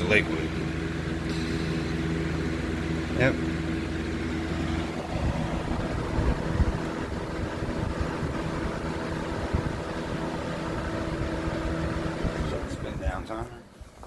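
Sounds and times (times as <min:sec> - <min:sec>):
box fan rushing air: 0:00.0 - 0:14.0
faint motor hum: 0:00.0 - 0:14.0.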